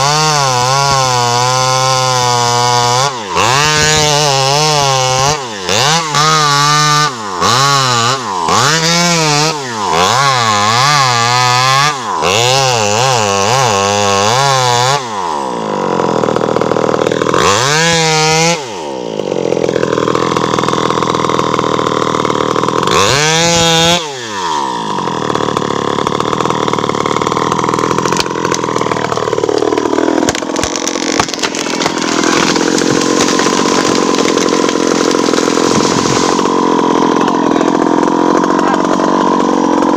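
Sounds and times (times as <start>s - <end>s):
chainsaw revving and cutting: 0.0s - 39.9s.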